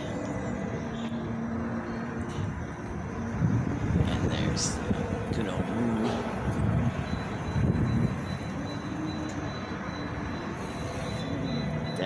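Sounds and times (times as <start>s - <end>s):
engine hum shifting in pitch: 0.0s - 12.0s
traffic rumble: 0.0s - 12.0s.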